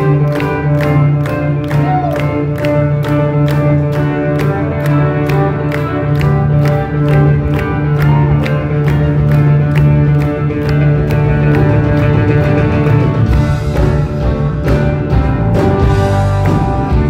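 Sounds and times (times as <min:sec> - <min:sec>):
drums: 0:00.0 - 0:17.0
electric guitars: 0:00.0 - 0:17.0.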